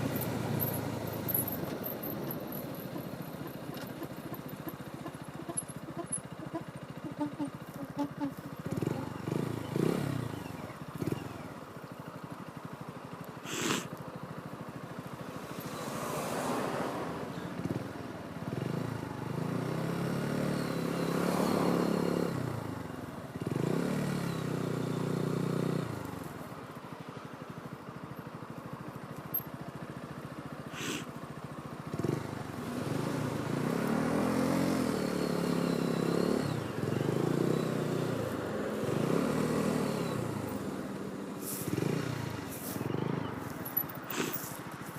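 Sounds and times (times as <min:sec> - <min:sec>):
motorcycle engine revving: 0:00.0 - 0:26.8, 0:29.3 - 0:44.8.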